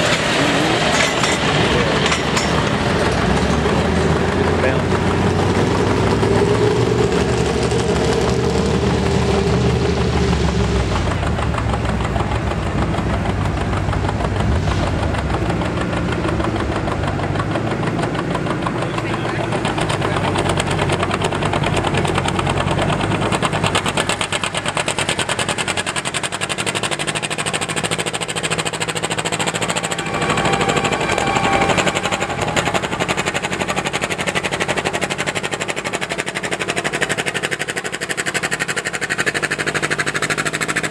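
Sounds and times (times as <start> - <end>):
tractor engine working under load: 0.0 - 40.9.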